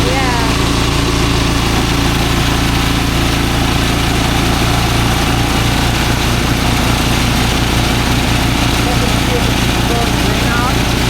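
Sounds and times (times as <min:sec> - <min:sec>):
threshing machine engine drone: 0:00.0 - 0:11.0.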